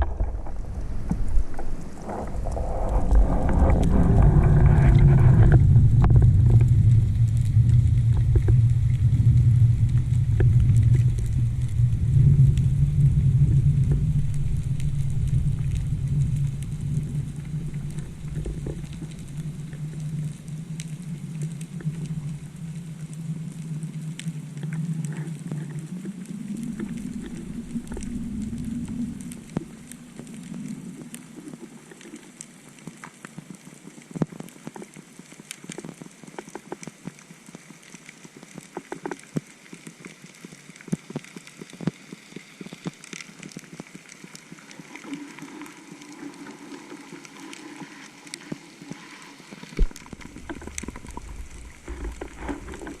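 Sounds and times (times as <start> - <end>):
low underwater hum: 0.0 - 53.0.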